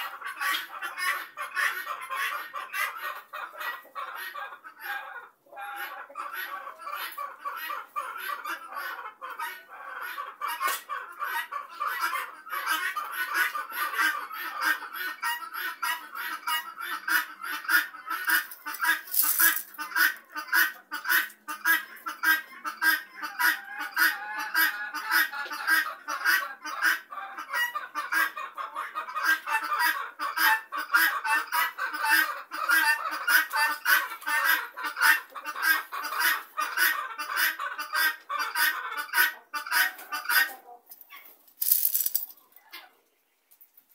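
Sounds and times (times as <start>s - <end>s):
guineafowl calling: 0.0s - 40.7s.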